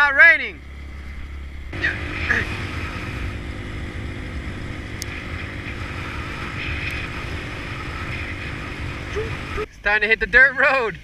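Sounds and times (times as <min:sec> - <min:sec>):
motorcycle engine running: 0:00.0 - 0:09.7
wind noise on microphone: 0:00.8 - 0:09.7.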